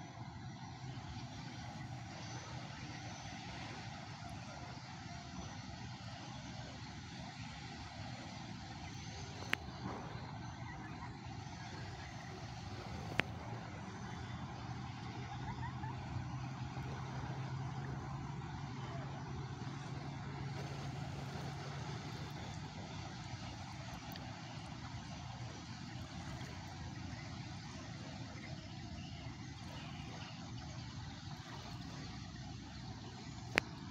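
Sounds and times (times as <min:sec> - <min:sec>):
low engine hum: 0:00.0 - 0:33.9
outdoor noise: 0:00.0 - 0:33.9.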